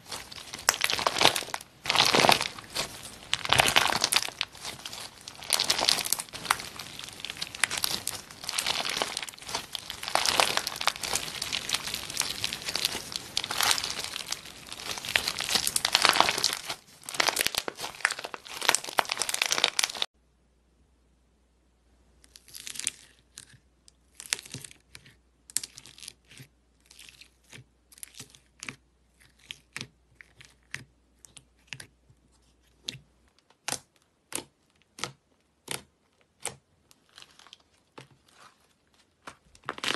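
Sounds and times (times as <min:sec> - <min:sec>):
squishy ball crackling and crinkling: 0:00.0 - 0:20.1, 0:22.3 - 0:39.9.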